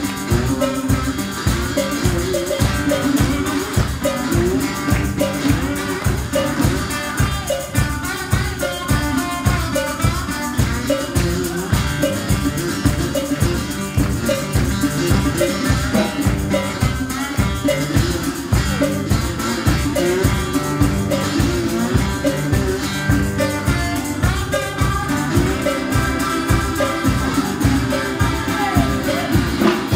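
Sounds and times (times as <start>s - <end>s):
blues band playing: 0.0s - 29.9s
tambourine shaking: 0.0s - 29.9s.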